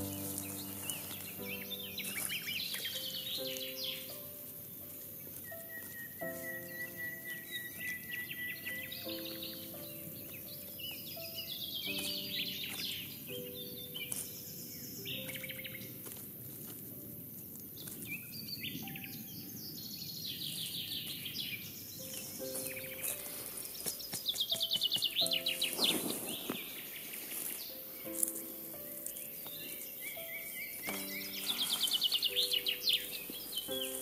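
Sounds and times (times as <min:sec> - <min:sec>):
soft background music: 0:00.0 - 0:34.0
songbirds singing: 0:00.0 - 0:34.0.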